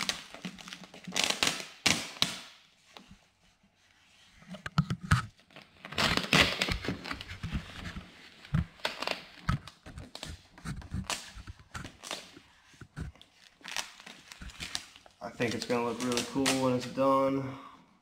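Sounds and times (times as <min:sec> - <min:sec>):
plastic film crinkling: 0:00.0 - 0:03.0, 0:05.3 - 0:17.0.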